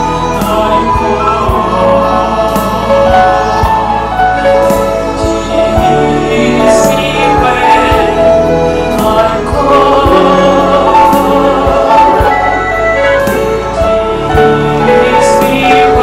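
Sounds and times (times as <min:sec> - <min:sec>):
choir singing gospel: 0:00.0 - 0:16.0
violins playing: 0:00.0 - 0:16.0.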